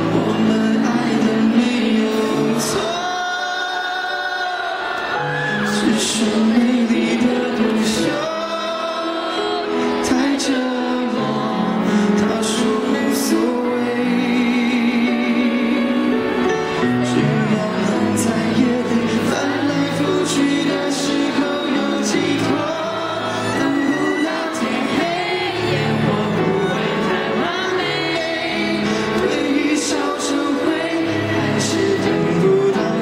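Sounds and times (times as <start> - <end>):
band accompaniment: 0.0 - 33.0
man singing a pop ballad: 0.0 - 33.0.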